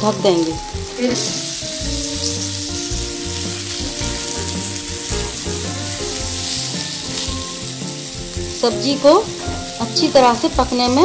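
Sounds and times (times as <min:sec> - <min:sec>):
curry sizzling in hot oil: 0:00.0 - 0:11.0.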